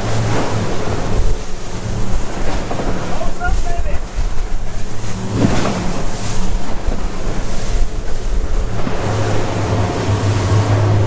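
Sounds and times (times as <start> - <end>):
outboard engines droning: 0.0 - 11.0
water rushing off hull: 0.0 - 11.0
wind buffeting microphone: 0.0 - 11.0.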